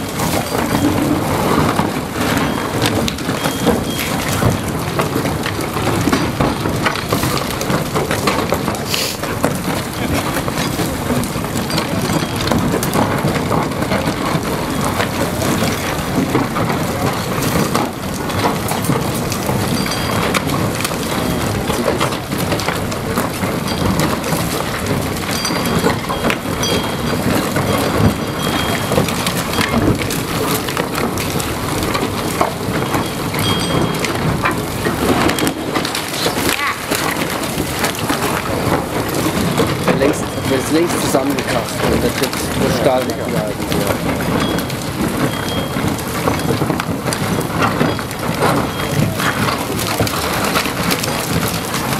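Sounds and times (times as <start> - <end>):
crumbling rock clattering: 0.0 - 51.9
tunnel boring machine rumbling: 0.0 - 51.9.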